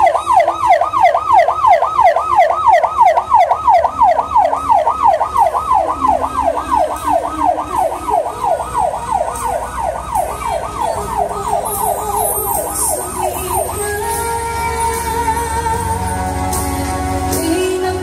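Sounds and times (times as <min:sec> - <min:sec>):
siren yelping: 0:00.0 - 0:15.1
music: 0:00.0 - 0:18.0.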